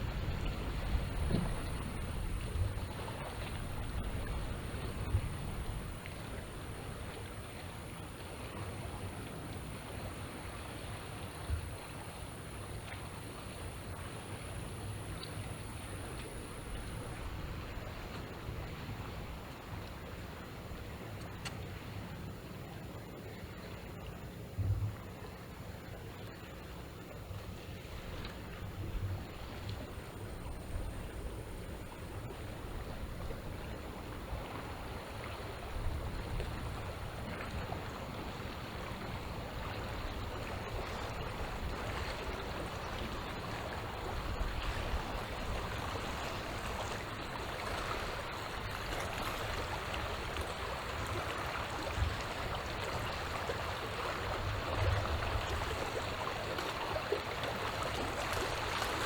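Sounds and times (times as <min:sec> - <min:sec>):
wind rumble on microphone: 0:00.0 - 0:21.4, 0:24.5 - 0:25.3, 0:27.4 - 0:59.0
sea waves lapping on shore: 0:00.0 - 0:22.1, 0:27.4 - 0:59.0.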